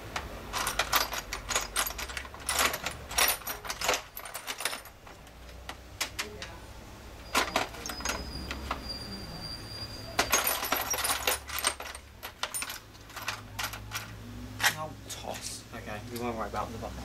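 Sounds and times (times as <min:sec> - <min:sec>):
small metal parts clinking: 0:00.0 - 0:15.4.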